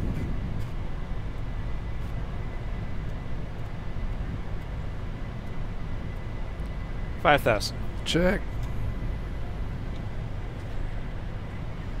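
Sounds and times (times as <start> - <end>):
airflow and engines rumbling: 0.0 - 12.0.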